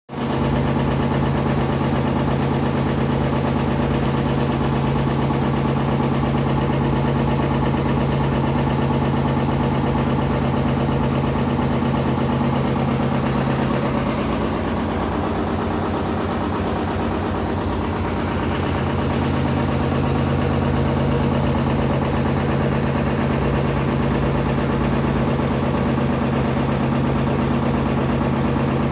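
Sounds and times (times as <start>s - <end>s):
washing machine humming: 0.2s - 28.9s.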